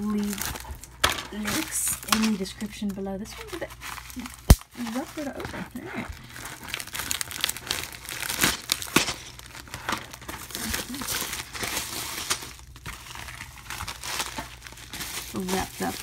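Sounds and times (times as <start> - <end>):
plastic envelope crinkling and tearing: 0.0 - 16.0.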